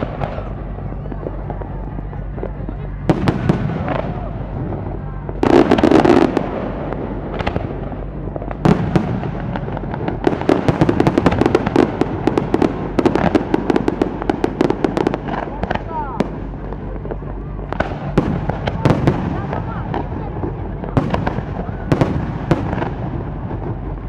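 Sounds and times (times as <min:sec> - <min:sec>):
crackling firework pops: 0:00.0 - 0:24.0
fireworks bangs and booms: 0:00.0 - 0:24.0.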